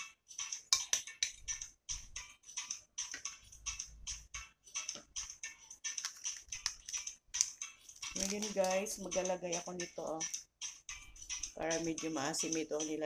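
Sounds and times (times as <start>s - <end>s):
high-pitched ticking: 0.0s - 13.0s.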